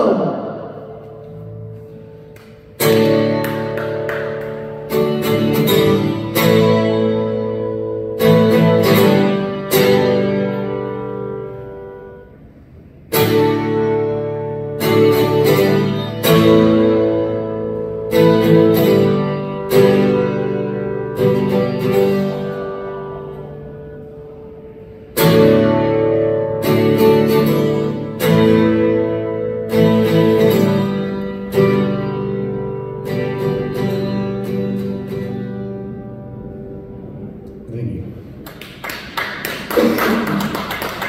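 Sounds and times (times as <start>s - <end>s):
acoustic guitar chords ringing: 0.0s - 38.4s.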